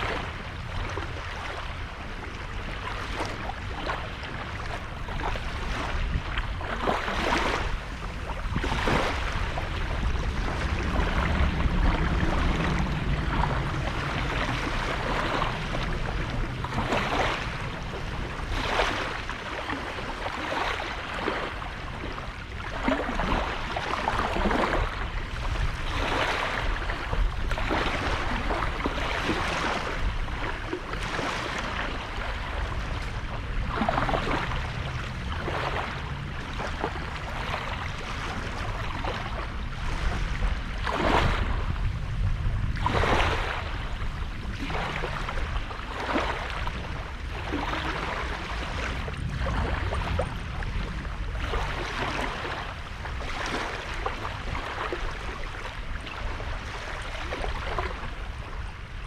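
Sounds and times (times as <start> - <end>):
small waves breaking on sand: 0.0 - 59.0
low rumble: 7.6 - 20.3, 21.0 - 55.8.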